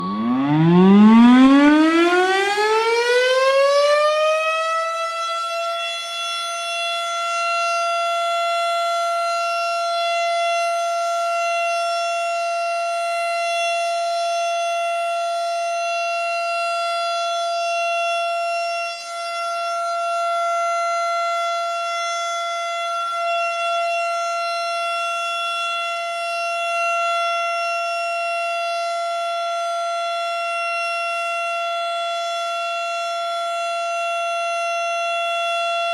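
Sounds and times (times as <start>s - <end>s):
fire siren winding: 0.0s - 35.9s.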